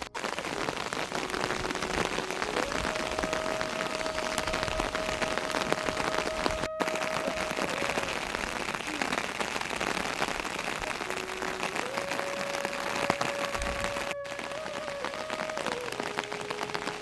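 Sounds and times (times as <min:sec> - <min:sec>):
steady rain patter: 0:00.0 - 0:17.0.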